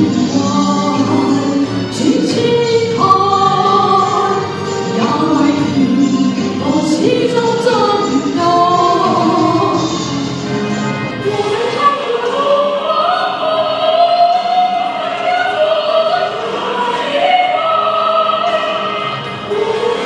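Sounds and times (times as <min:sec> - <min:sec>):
choir singing: 0:00.3 - 0:10.1, 0:11.2 - 0:20.0.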